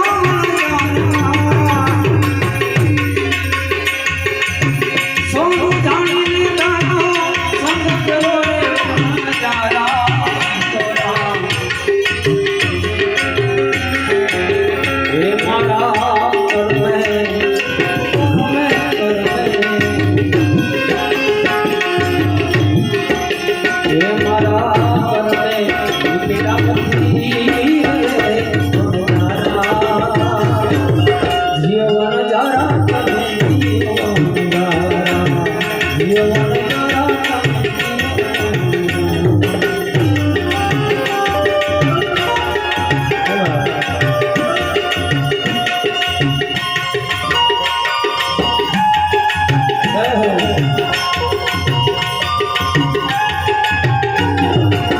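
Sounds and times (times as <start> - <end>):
instrumental melody line: 0.0 - 54.9
tabla rhythm: 0.0 - 54.9.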